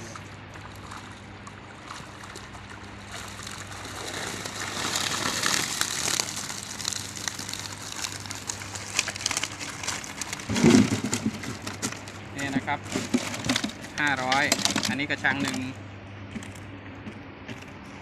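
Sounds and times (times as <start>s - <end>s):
water splashing and streaming: 0.0s - 14.9s.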